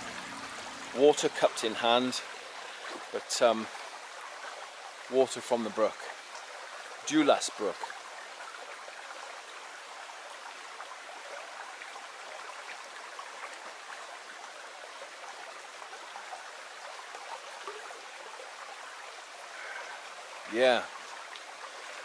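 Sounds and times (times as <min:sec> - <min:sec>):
stream running and trickling: 0:00.0 - 0:22.0.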